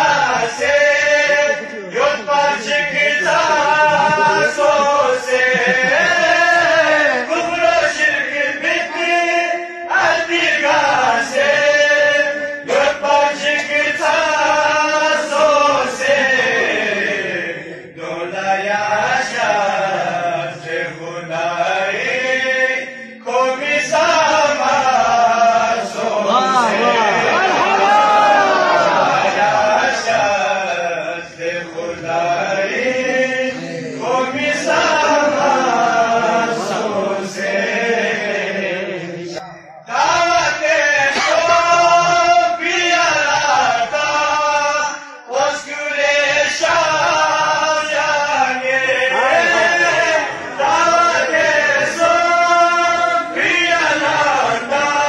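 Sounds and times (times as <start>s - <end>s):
voices chanting: 0.0s - 55.0s.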